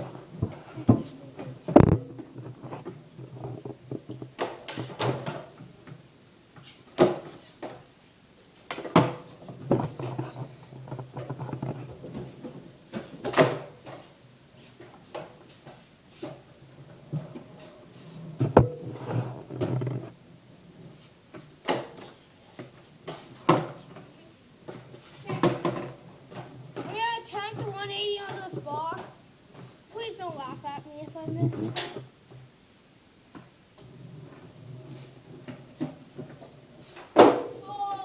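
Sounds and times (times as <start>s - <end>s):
skateboard clacking on floor: 0.0s - 7.9s, 8.7s - 14.1s, 14.8s - 20.1s, 21.3s - 29.1s, 33.4s - 38.0s
skateboard wheels rumbling on concrete: 0.0s - 7.9s, 8.5s - 32.4s, 33.8s - 38.0s.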